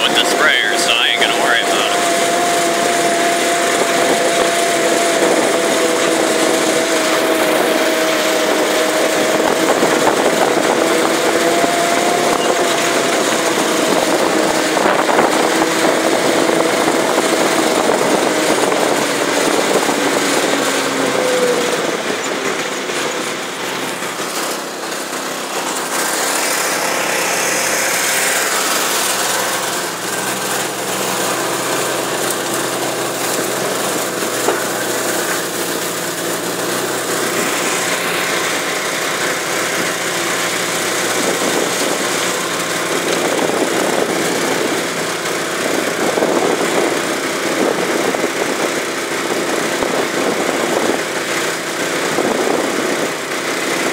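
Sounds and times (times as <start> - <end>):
rough rushing noise: 0.0 - 53.9
utility vehicle engine running: 0.0 - 53.9.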